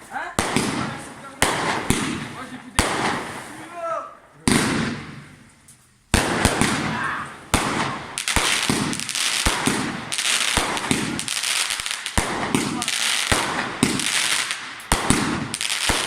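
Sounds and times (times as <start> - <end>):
fireworks bangs and crackles: 0.0 - 5.5, 6.1 - 16.0.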